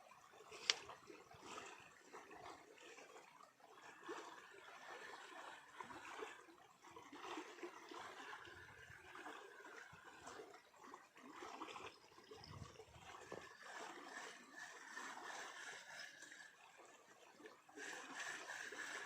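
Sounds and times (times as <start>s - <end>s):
faint stream flowing: 0.0s - 19.0s.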